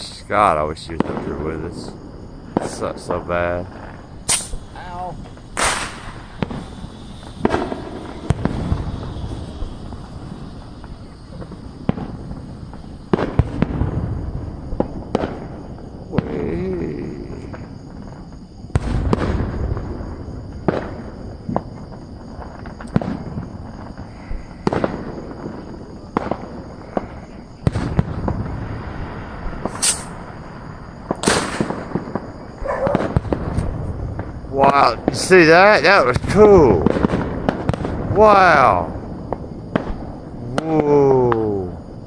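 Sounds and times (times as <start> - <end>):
crackling firework bursts: 0.0 - 42.0
distant firework shells bursting: 0.9 - 16.3, 17.4 - 41.6.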